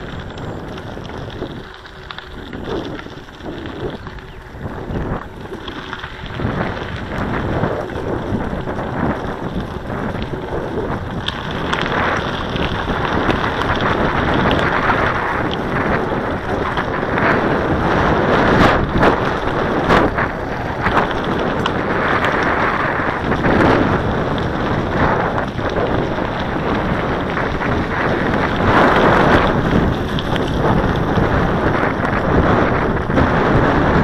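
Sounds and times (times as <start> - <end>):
bicycle tyres crunching on gravel: 0.0 - 34.0
wind buffeting microphone: 0.0 - 34.0.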